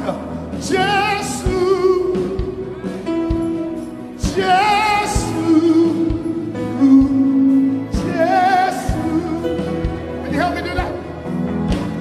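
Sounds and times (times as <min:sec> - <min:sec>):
gospel vocals with vibrato: 0:00.0 - 0:03.0, 0:03.8 - 0:10.6
slow drum beat: 0:00.0 - 0:10.2.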